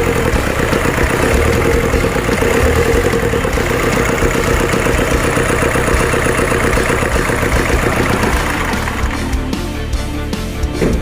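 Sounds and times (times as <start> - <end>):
diesel engine idling: 0.0 - 10.6.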